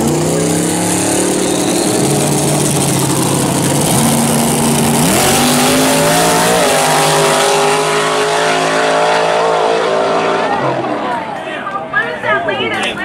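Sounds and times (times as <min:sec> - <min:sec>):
drag car engine revving: 0:00.0 - 0:11.4.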